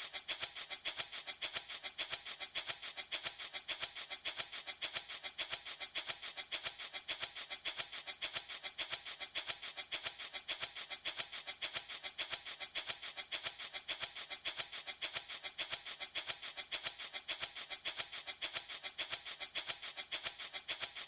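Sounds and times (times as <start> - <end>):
baby rattle shaken: 0.0 - 21.0.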